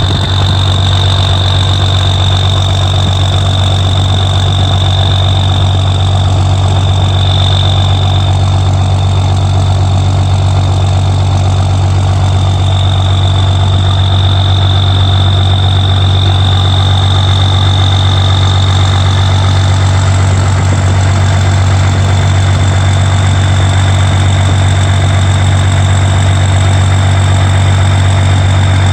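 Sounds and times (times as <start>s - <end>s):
diesel truck idling: 0.0s - 28.9s
steady high whine: 0.0s - 28.9s.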